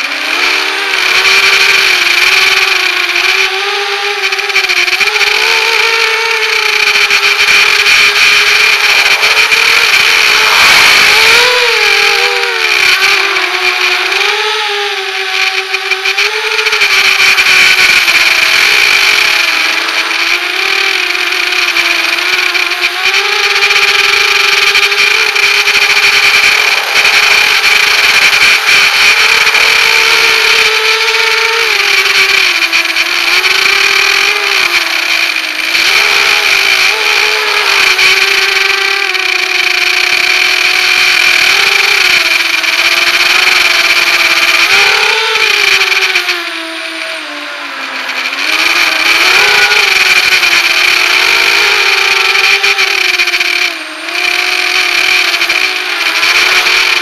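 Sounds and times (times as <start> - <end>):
drone motors and propellers whining: 0.0 - 57.0.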